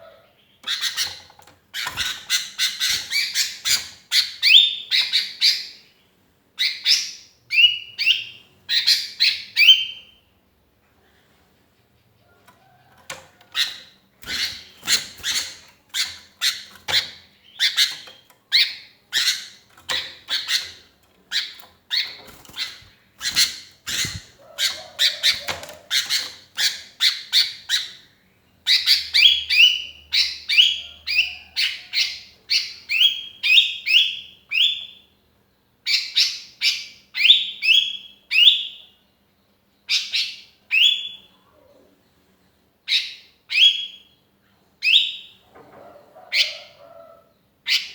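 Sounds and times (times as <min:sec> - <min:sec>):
bird chirping: 0:00.0 - 0:10.4, 0:11.7 - 0:47.9.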